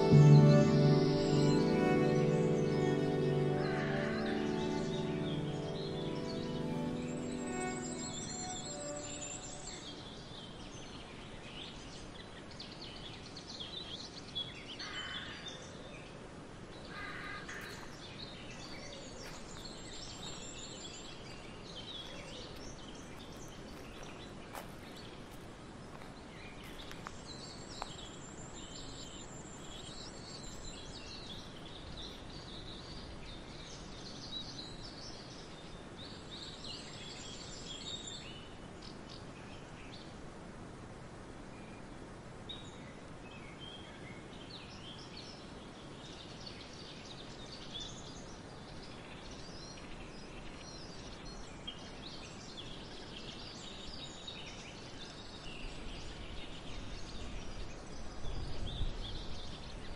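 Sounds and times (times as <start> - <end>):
songbirds chirping: 0.0 - 40.2, 41.6 - 59.9
faint background noise: 0.0 - 59.9.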